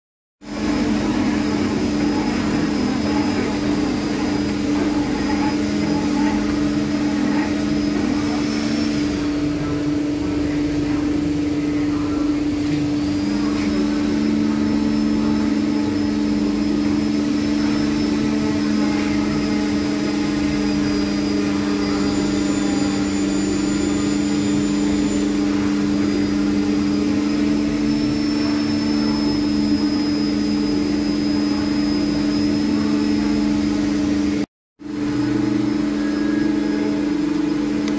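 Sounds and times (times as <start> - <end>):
circular saw running: 0.4 - 37.9.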